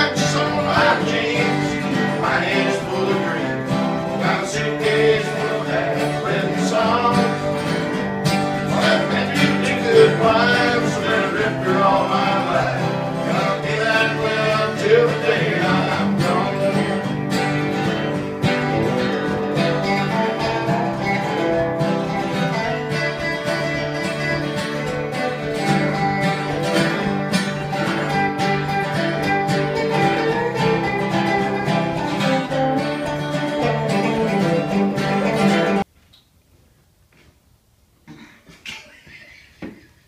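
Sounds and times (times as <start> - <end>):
country guitars playing: 0.0 - 35.9.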